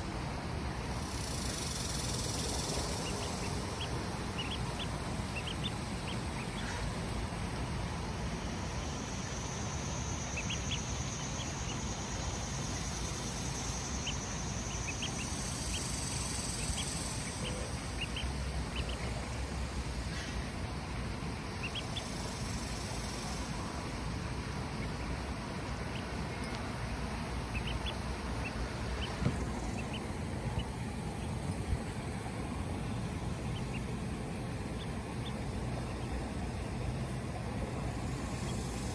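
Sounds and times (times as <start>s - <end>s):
ducklings peeping: 0.0s - 38.9s
low background rumble: 0.0s - 38.9s.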